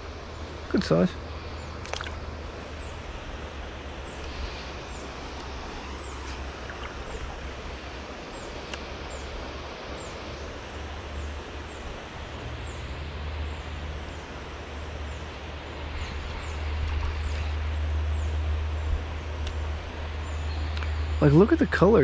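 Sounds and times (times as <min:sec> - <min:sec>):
creek rushing: 0:00.0 - 0:22.0.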